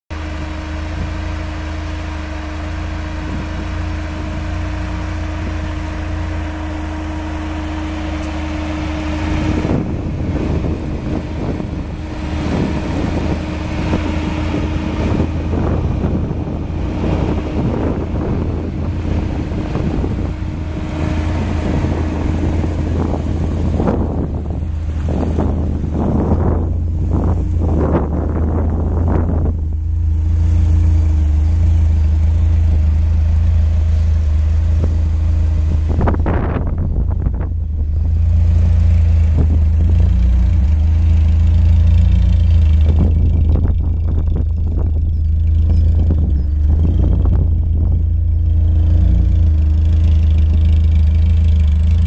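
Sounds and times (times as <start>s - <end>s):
car engine idling: 0.1s - 52.0s
wind buffeting microphone: 2.6s - 52.0s.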